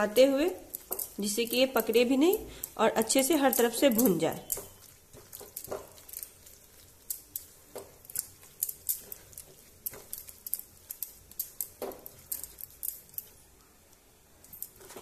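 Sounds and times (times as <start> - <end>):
apple frying in a pan: 0.0 - 12.1.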